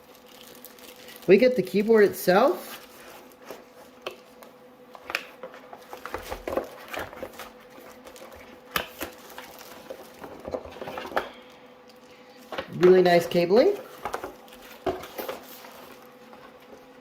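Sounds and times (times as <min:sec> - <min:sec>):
faint steady hum: 0:00.0 - 0:17.0
packaging being handled: 0:00.0 - 0:17.0.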